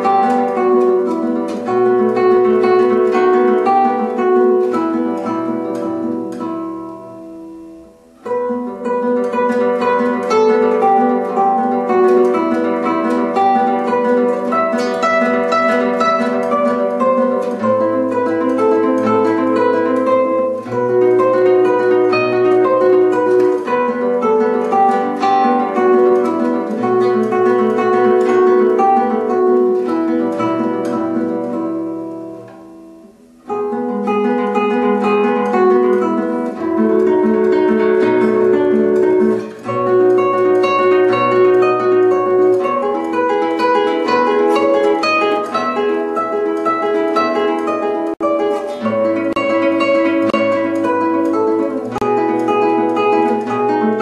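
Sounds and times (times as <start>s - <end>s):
plucked guitar music: 0.0s - 54.0s.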